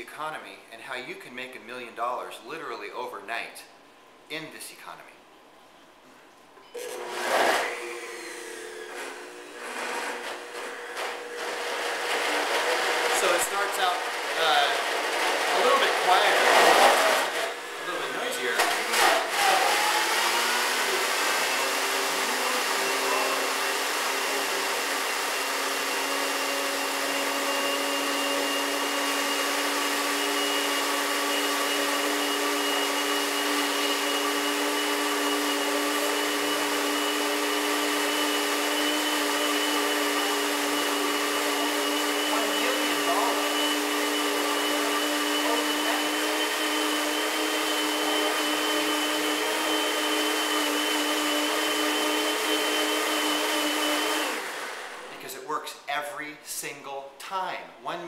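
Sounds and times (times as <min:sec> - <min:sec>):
blender motor whining: 0:06.8 - 0:55.2.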